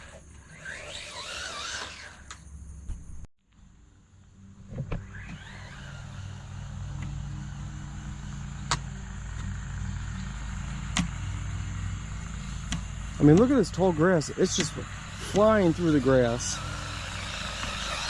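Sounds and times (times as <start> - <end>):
electric motor whine: 0.0 - 3.2, 4.2 - 18.0.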